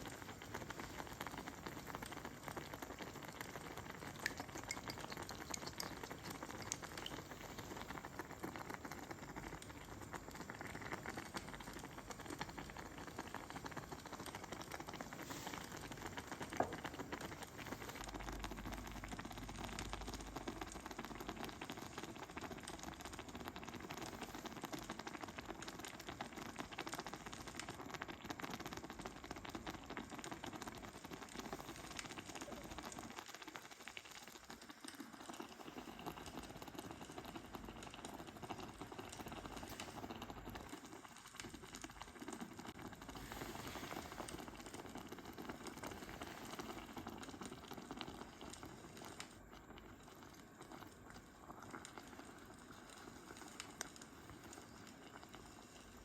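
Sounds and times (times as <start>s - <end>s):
food bubbling and crackling: 0.0s - 56.0s.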